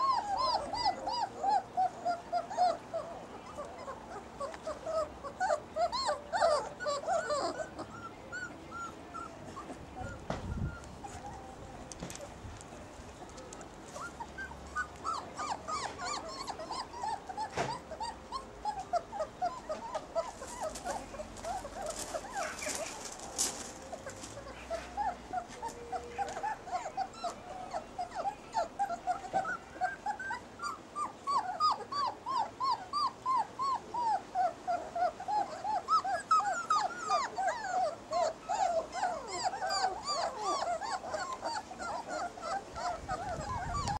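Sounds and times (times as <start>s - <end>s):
puppies whimpering: 0.0s - 12.4s, 13.2s - 44.0s.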